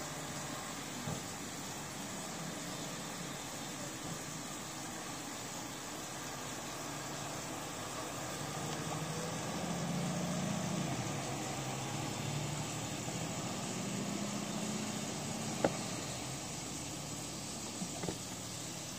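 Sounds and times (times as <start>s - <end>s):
faint rising whine: 0.0s - 18.9s.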